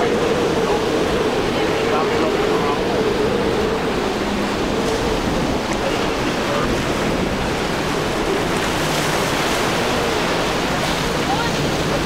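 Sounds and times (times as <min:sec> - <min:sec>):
boat spray rushing: 0:00.0 - 0:12.0
outboard motors droning: 0:00.0 - 0:12.0
surf: 0:00.0 - 0:12.0
wind buffeting microphone: 0:00.0 - 0:12.0.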